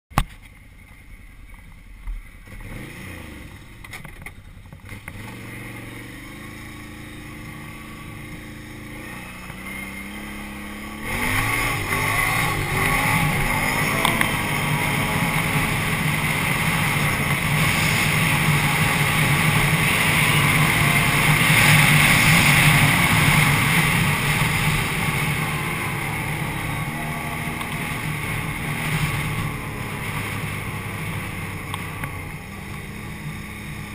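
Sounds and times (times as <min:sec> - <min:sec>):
atv engine running: 0:00.2 - 0:33.9.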